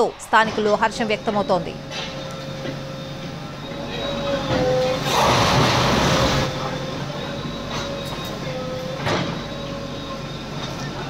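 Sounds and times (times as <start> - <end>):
backhoe loader engine running: 0.0 - 11.0.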